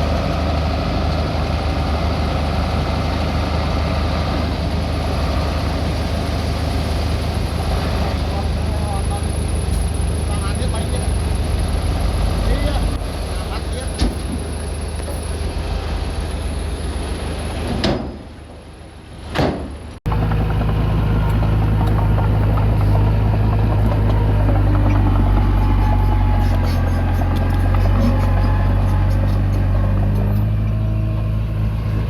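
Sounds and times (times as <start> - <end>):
bulldozer diesel engine running: 0.0 - 17.7, 20.1 - 32.0.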